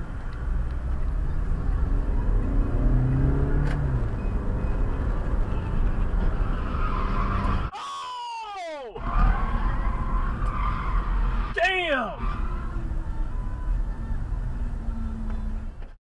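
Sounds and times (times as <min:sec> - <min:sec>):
car road and engine noise: 0:00.0 - 0:07.7, 0:09.0 - 0:16.0.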